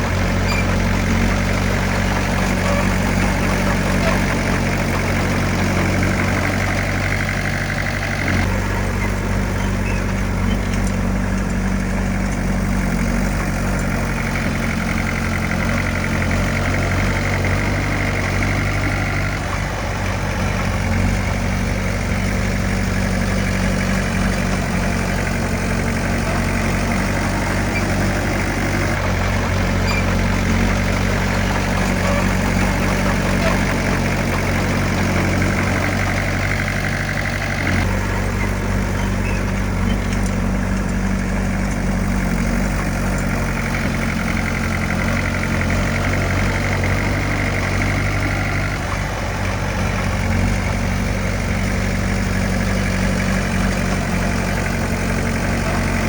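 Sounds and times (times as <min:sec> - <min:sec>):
heavy machine diesel engine running: 0:00.0 - 0:56.0.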